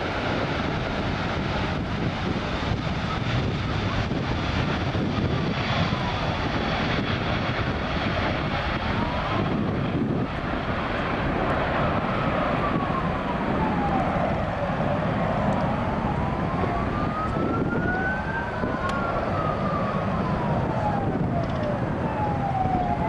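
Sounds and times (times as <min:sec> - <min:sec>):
airliner engine rumble: 0:00.0 - 0:23.0.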